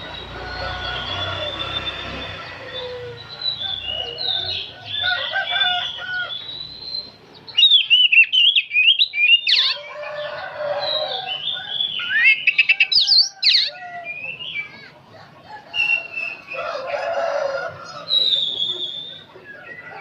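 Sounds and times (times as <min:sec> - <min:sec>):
bird singing whistled phrases: 0:00.0 - 0:09.8, 0:10.8 - 0:14.8, 0:15.7 - 0:16.7, 0:18.1 - 0:20.0.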